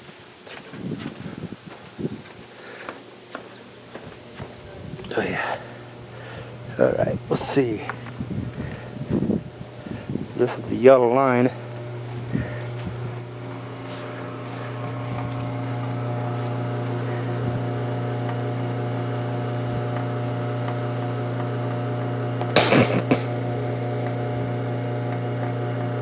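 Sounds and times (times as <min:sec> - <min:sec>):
motor humming: 0:03.3 - 0:26.0.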